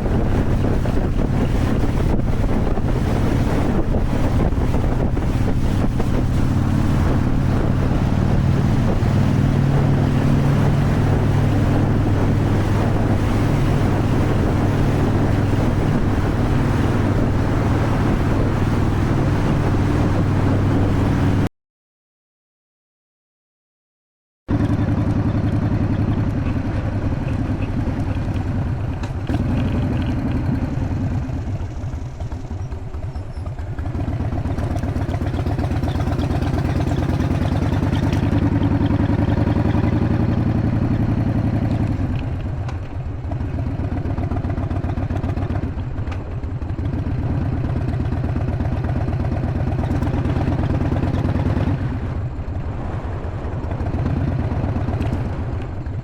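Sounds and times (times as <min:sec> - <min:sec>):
motorcycle engine running: 0:00.0 - 0:21.5, 0:24.5 - 0:56.0.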